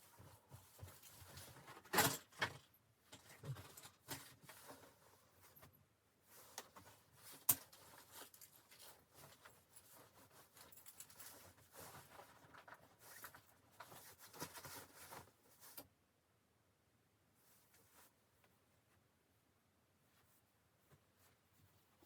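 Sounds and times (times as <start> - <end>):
faint rustling and handling: 0.0 - 16.0, 17.2 - 22.0.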